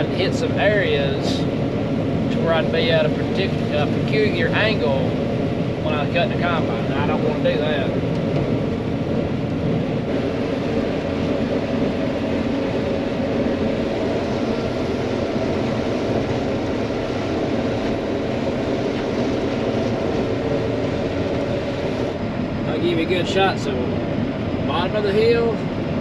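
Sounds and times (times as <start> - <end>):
combine diesel engine droning: 0.0 - 26.0.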